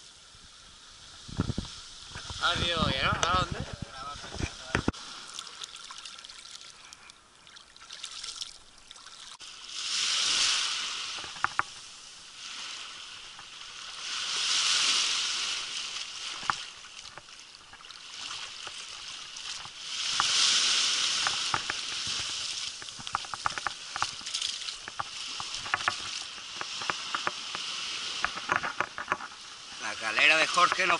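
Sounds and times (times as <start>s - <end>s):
small waves washing ashore: 0.0s - 30.9s.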